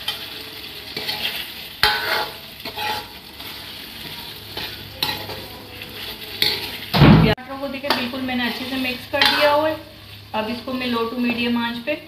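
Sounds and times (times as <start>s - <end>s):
ladle stirring and scraping wok: 0.0s - 7.0s, 7.8s - 11.4s
vegetables sizzling in oil: 0.0s - 12.0s.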